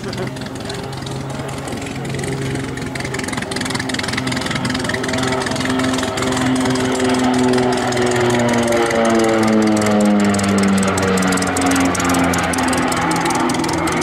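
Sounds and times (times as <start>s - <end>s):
turboprop aircraft passing: 0.0s - 14.0s.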